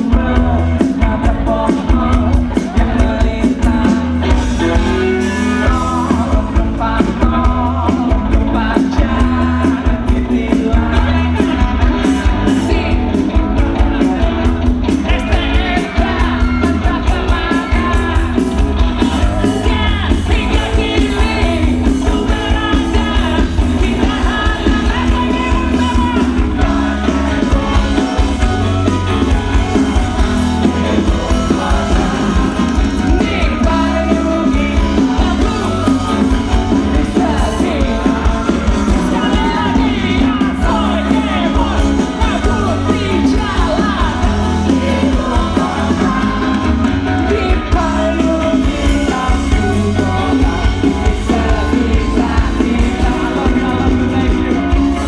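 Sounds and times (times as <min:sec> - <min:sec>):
live rock band with vocals: 0:00.0 - 0:55.0.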